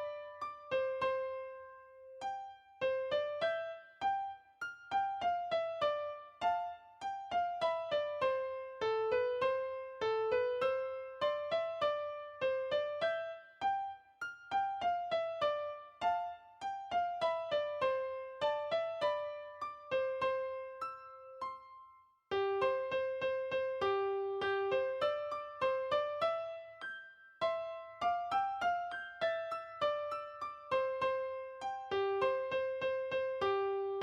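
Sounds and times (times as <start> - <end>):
gentle keyboard melody: 0.0 - 34.0.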